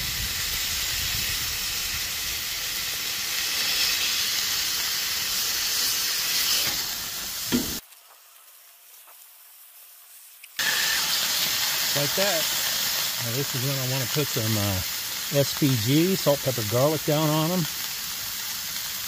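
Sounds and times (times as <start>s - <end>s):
meat patty sizzling on a griddle: 0.0s - 19.0s.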